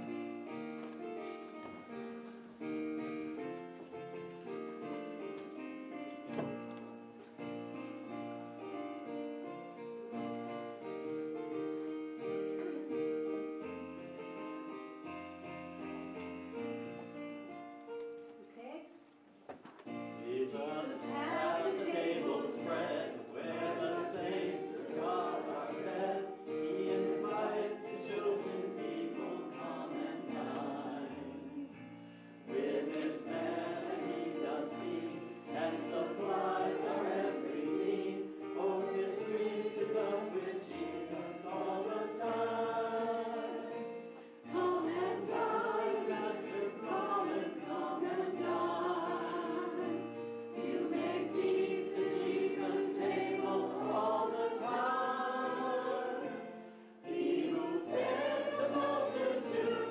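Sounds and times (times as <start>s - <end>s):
congregation singing a hymn: 0.0s - 17.3s, 19.8s - 59.9s.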